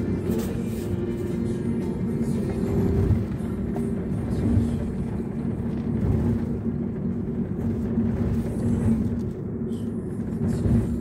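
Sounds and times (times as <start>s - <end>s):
engine and road rumble: 0.0s - 11.0s
steady hum: 0.0s - 11.0s.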